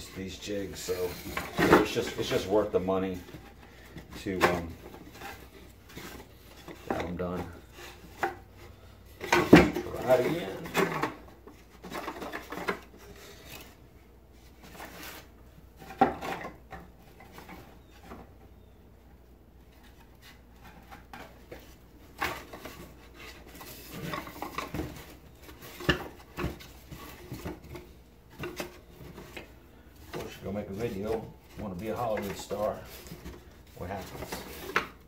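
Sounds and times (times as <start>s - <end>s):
wooden frame parts clattering: 0.9s - 8.6s, 9.2s - 13.8s, 14.6s - 18.4s, 19.7s - 35.0s.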